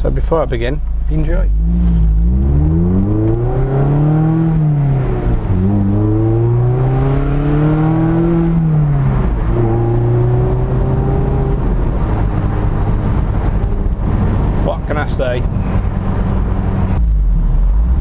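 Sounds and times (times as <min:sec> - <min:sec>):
sports car engine revving: 0:00.8 - 0:18.0.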